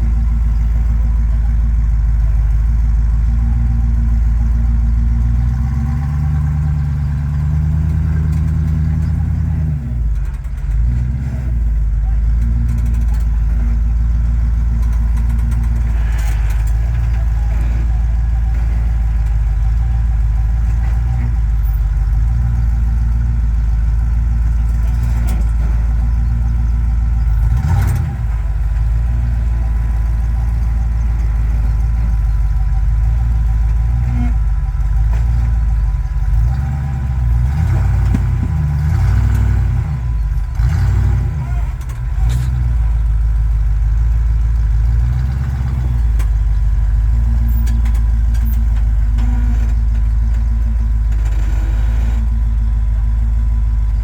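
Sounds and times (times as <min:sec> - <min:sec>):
vehicle engine running at low revs: 0:00.0 - 0:54.0.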